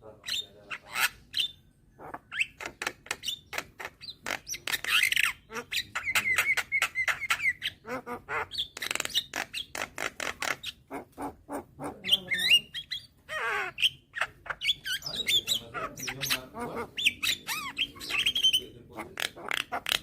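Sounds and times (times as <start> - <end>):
bird harsh squawk: 0.1 - 20.0
myna clicking and chattering: 2.0 - 20.0.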